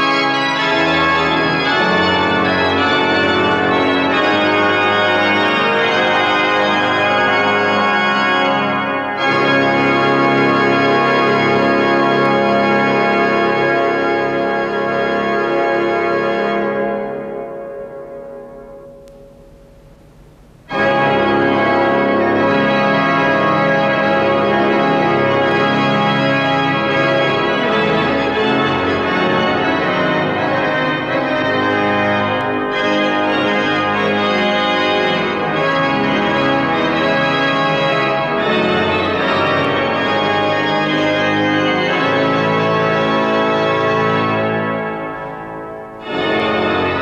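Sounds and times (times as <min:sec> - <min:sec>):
loud pipe organ chords: 0:00.0 - 0:47.0.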